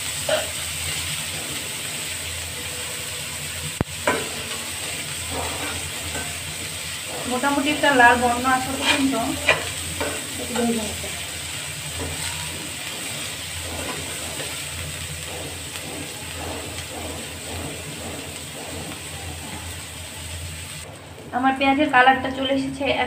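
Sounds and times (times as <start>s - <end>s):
onions sizzling in hot oil: 0.0s - 23.0s
metal spatula scraping pan: 0.3s - 19.1s.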